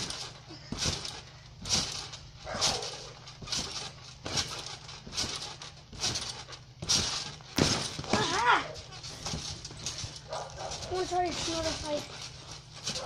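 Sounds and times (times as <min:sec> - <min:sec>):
trampoline thumping: 0:00.0 - 0:13.0.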